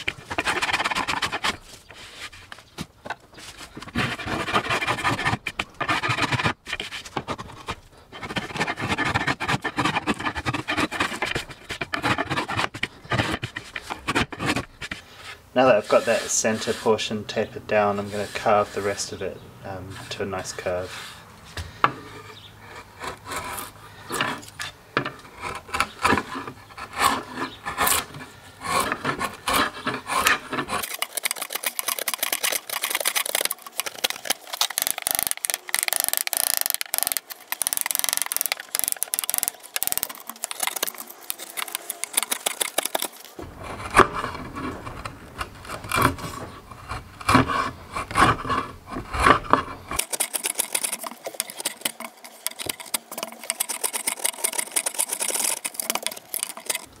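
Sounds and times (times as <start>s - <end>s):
gouge carving wood: 0.0s - 2.4s, 3.4s - 21.2s, 21.9s - 57.0s.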